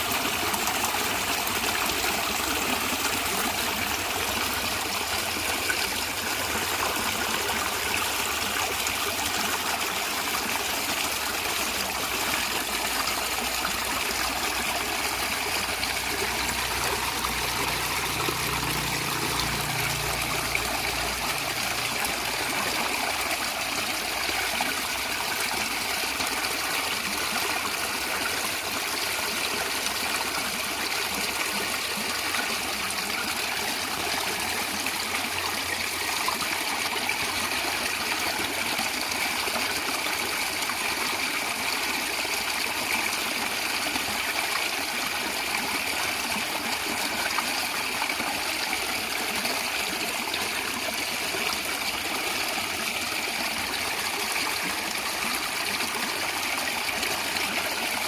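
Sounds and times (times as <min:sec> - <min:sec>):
stream gurgling over stones: 0:00.0 - 0:58.0.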